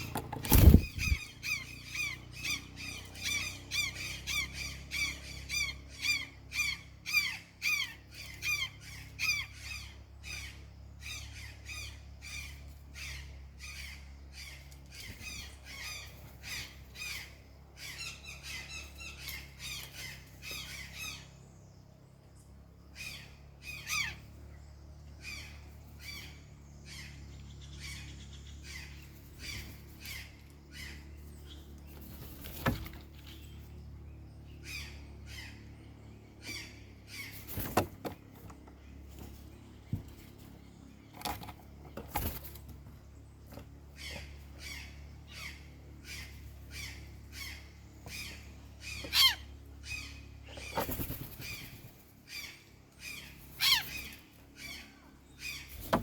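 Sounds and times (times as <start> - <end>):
birds squawking: 0.0 - 21.7, 22.8 - 56.0.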